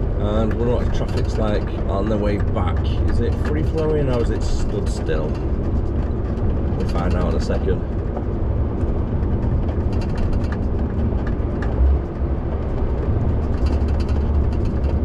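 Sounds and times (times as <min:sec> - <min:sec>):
lorry engine and tyres rumbling: 0:00.0 - 0:15.0
low bump: 0:00.0 - 0:15.0.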